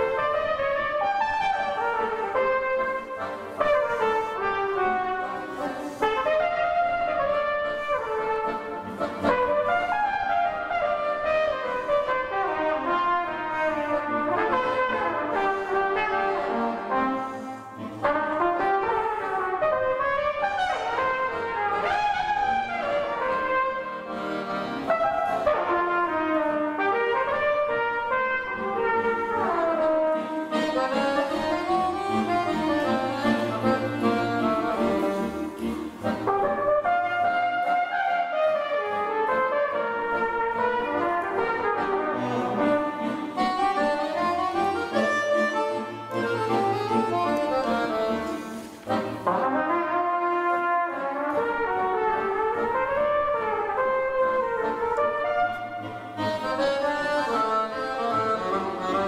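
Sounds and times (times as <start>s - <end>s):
accordion accompaniment: 0.0s - 59.0s
trumpet melody: 0.0s - 59.0s.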